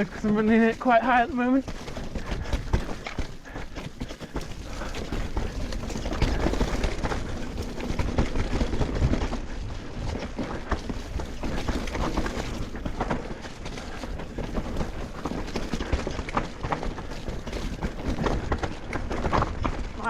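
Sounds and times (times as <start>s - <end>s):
bike chain and frame rattling: 0.0s - 20.0s
bike tyres rumbling on dirt: 0.0s - 20.0s.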